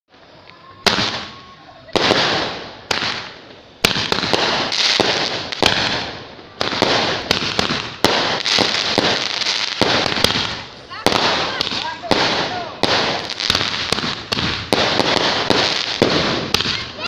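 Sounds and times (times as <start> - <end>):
fireworks bangs: 0.1 - 17.0
fireworks hiss and crackle: 0.1 - 17.0.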